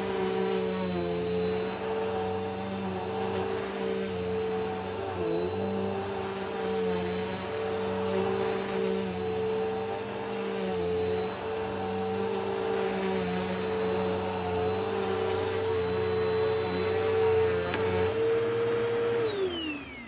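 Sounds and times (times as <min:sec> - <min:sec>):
vacuum cleaner running over carpet: 0:00.0 - 0:20.0
vacuum motor winding down: 0:00.0 - 0:20.0.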